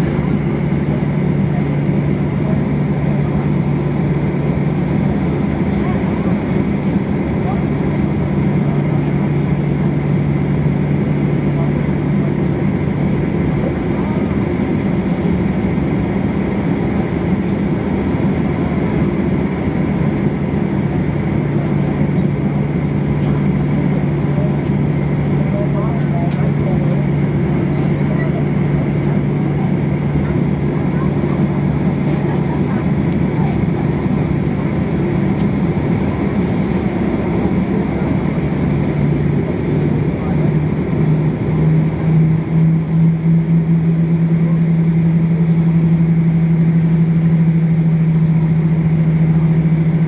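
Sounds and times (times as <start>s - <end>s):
airliner cabin engine hum: 0.0s - 50.0s.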